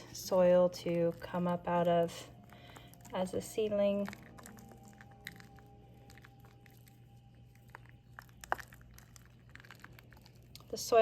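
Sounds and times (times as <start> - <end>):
soil crumbled by hand: 0.7 - 11.0.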